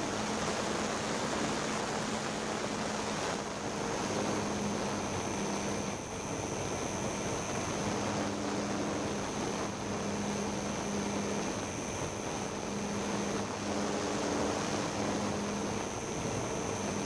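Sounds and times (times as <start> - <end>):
low propeller buzz: 0.0 - 17.0
thin high whine: 0.0 - 17.0.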